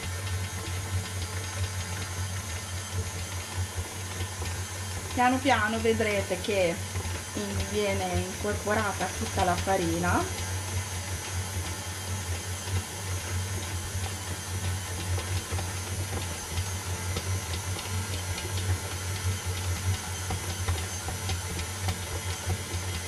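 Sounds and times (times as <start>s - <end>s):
stand mixer motor hum: 0.0s - 23.0s.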